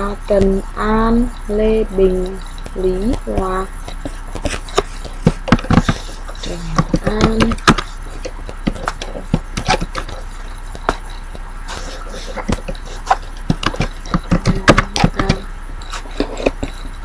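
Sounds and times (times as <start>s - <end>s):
keyboard typing: 0.0s - 17.0s.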